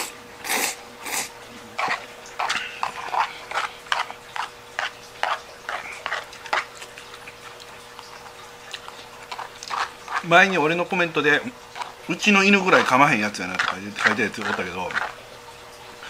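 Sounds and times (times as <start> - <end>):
wet open-mouthed chewing: 0.0 - 10.5, 11.5 - 16.0
noodles slurped loudly: 0.0 - 15.3
faint steady hum: 0.0 - 16.0.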